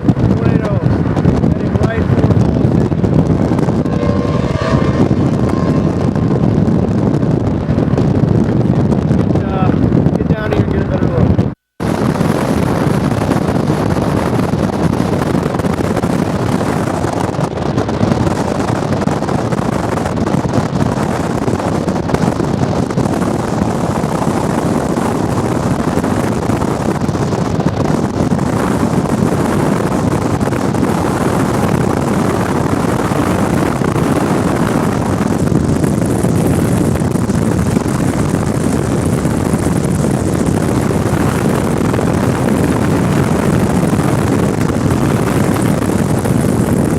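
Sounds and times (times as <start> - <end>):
vehicle road noise: 0.0 - 10.0, 12.1 - 46.9
wind buffeting microphone: 0.0 - 46.9.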